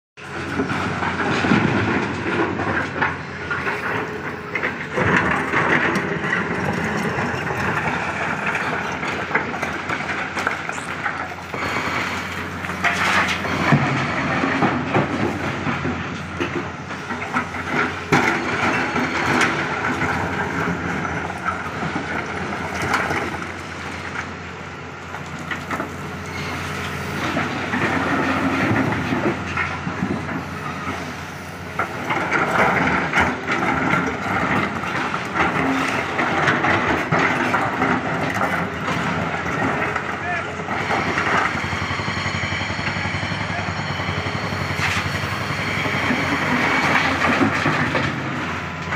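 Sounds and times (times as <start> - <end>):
excavator diesel engine running: 0.2 - 48.9.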